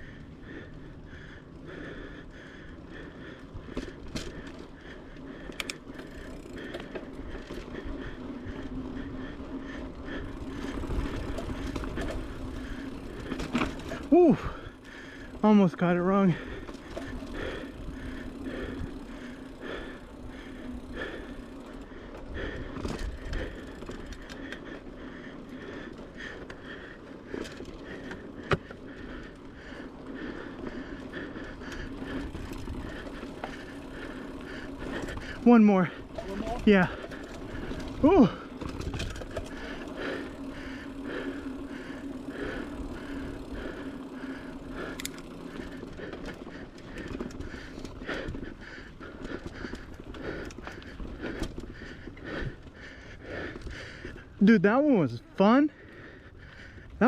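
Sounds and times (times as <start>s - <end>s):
bike tyres and frame rattling: 0.0s - 57.0s
heavy breathing: 0.0s - 57.0s.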